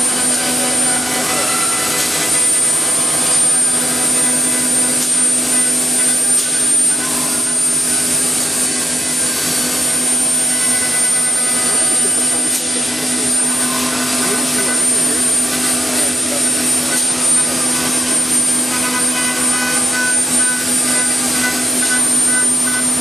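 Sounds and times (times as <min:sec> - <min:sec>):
woodworking machinery running: 0:00.0 - 0:23.0.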